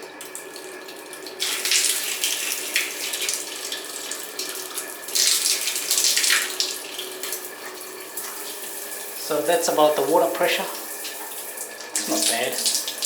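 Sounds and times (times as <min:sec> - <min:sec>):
shower spraying water: 0:01.3 - 0:13.0.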